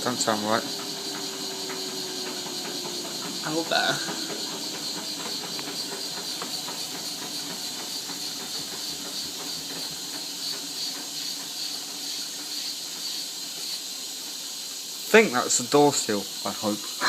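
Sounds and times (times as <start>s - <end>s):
washing machine drum turning: 0.0s - 14.0s
steady hiss: 0.0s - 17.0s.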